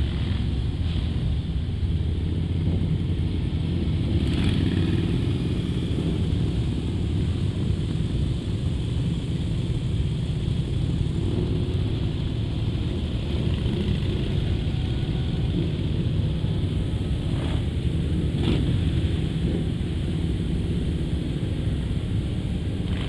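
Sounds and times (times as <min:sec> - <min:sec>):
motorcycles rumbling past: 0:00.0 - 0:07.9, 0:11.2 - 0:23.0.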